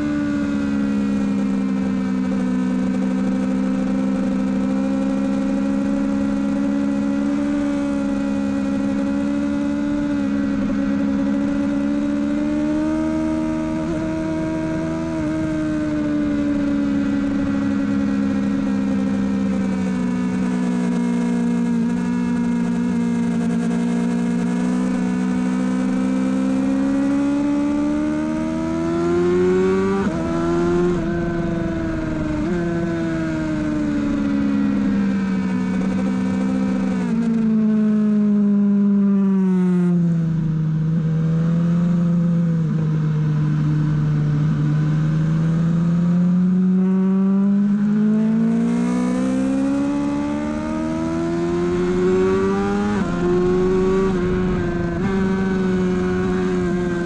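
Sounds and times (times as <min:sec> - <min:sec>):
motorbike engine at speed: 0:00.0 - 0:57.0.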